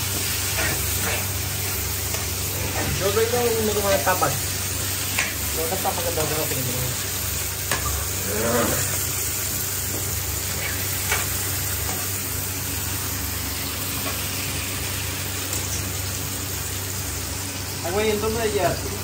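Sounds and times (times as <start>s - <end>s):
gas stove hissing: 0.0s - 19.0s.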